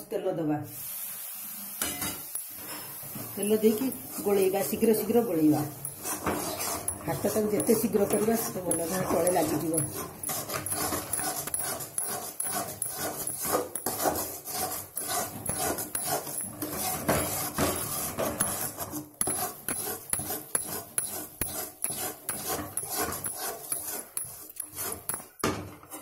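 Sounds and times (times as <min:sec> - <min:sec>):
metal ladle scraping metal pan: 0:01.7 - 0:26.0.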